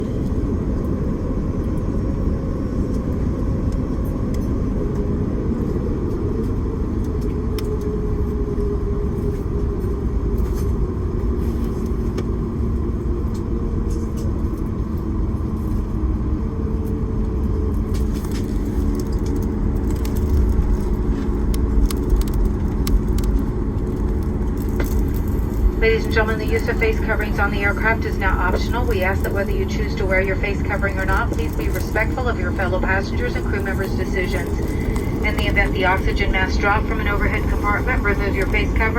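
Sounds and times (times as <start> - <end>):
airliner cabin rumble and hum: 0.0 - 38.9.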